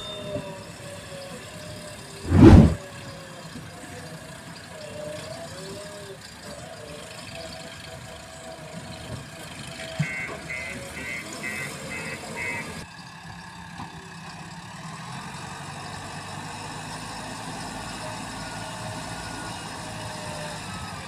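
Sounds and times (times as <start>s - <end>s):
diesel engines running: 0.1s - 21.0s.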